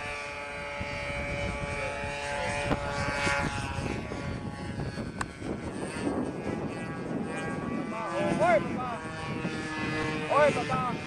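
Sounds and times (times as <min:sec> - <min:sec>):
model airplane engine passing: 0:00.0 - 0:11.0.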